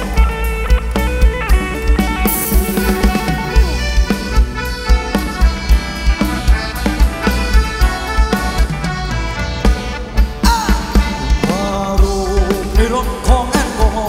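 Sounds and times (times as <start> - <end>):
live instrumental band music: 0.0 - 14.0.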